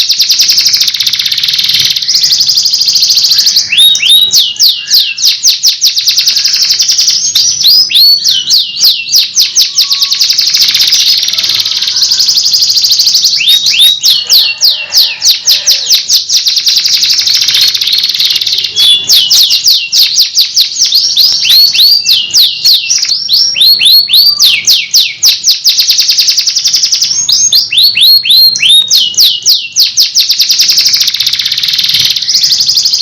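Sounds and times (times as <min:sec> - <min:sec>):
canary singing: 0:00.0 - 0:33.0.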